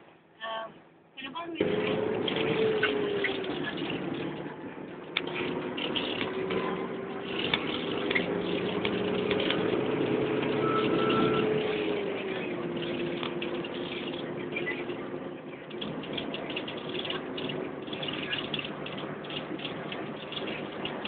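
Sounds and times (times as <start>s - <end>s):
road rumble: 1.1s - 21.0s
car engine hum: 1.6s - 21.0s.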